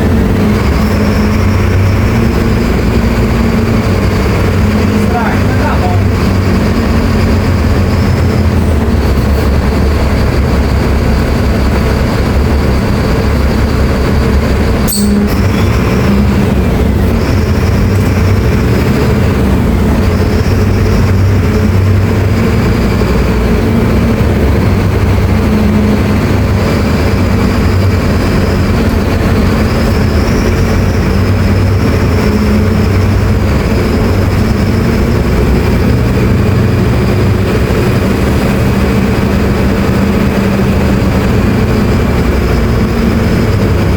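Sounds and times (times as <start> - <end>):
bus diesel engine rumble: 0.0 - 43.9
high whine: 0.0 - 43.9.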